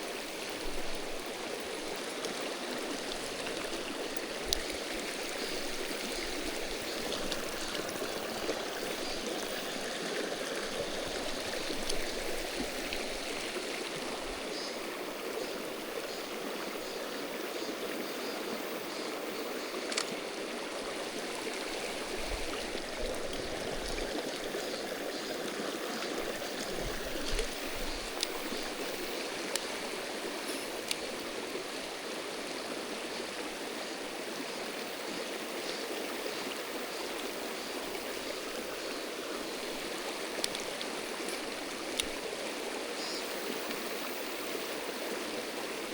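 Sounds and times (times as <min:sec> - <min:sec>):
stream water running: 0:00.0 - 0:45.9.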